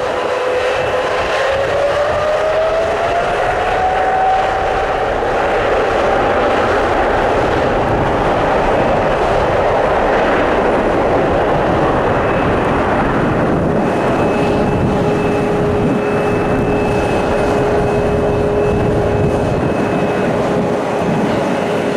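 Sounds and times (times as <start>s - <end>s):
jet engine whining: 0.0s - 21.9s
jet engines roaring: 0.0s - 21.9s.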